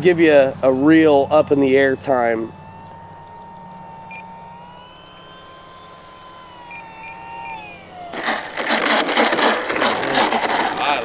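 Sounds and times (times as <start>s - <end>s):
electric motor and propeller whining: 0.0s - 11.0s.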